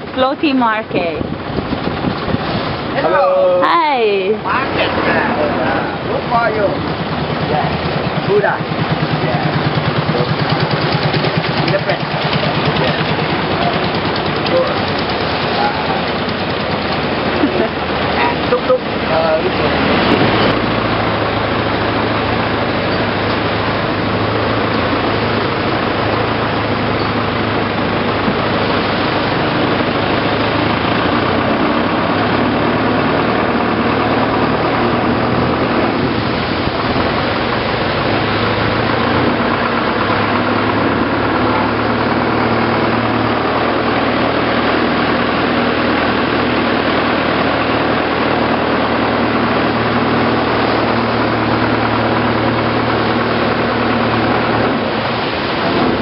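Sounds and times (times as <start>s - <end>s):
boat engine drone: 0.0s - 56.0s.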